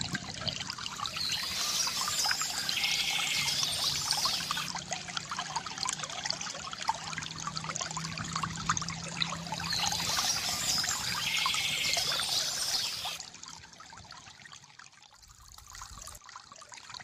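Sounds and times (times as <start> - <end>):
fountain water trickling and splashing: 0.0 - 17.0.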